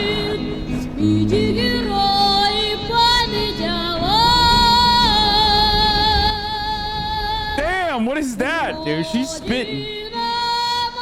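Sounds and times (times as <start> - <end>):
woman singing folk-style song: 0.0 - 7.7, 8.4 - 11.0.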